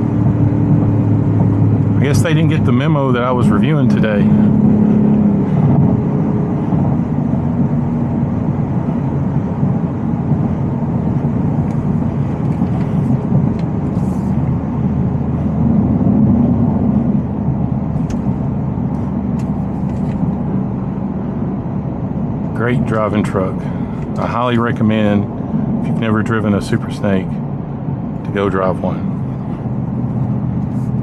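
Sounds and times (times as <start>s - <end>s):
engine and road drone: 0.0s - 31.0s.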